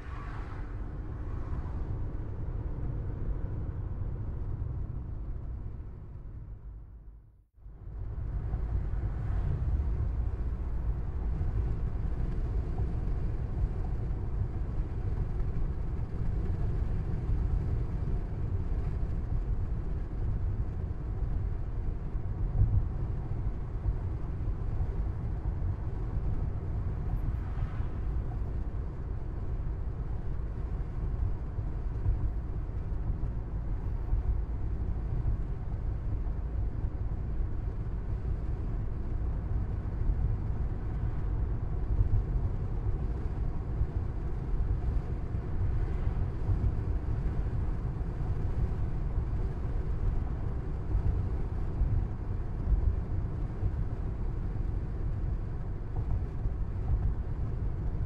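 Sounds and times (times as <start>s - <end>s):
car interior road rumble: 0.0s - 7.0s, 7.7s - 58.0s.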